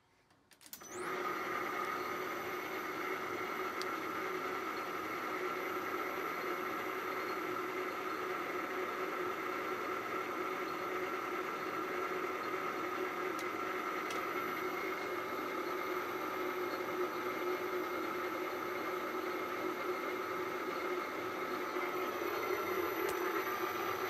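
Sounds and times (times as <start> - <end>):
metal lathe humming and whining: 0.9 - 24.0.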